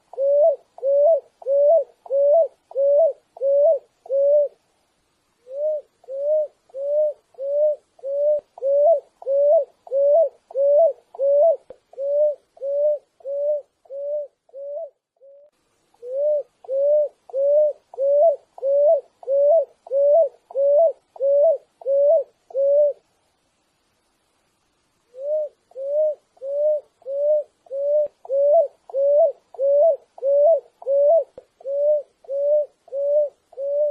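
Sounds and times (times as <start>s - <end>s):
dove cooing: 0.0s - 4.6s, 5.4s - 23.0s, 25.1s - 33.9s.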